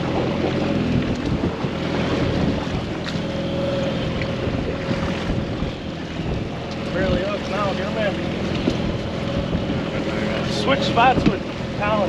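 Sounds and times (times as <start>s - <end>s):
boat motor running: 0.0s - 12.0s
wind buffeting microphone: 0.0s - 12.0s.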